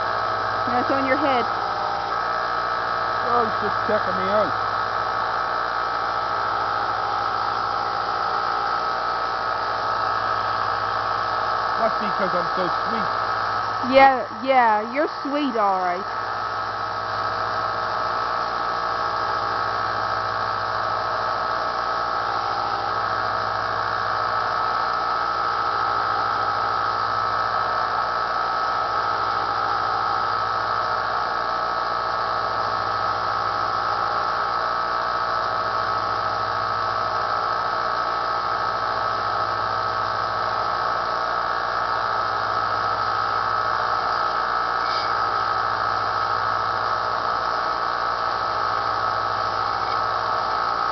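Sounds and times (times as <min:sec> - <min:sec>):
belt sander motor whine: 0:00.0 - 0:50.9.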